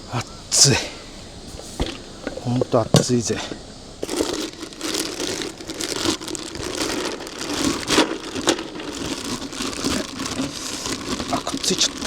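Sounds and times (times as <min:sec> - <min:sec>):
crinkling and rustling: 0:00.6 - 0:12.0.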